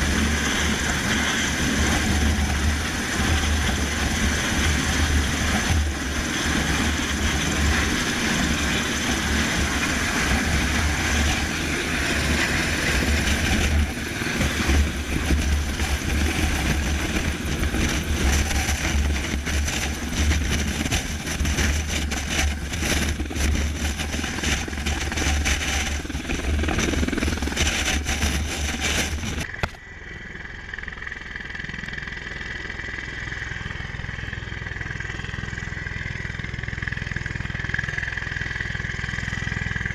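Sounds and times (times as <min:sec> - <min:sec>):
aircraft engines and rotors drone: 0:00.0 - 0:39.9.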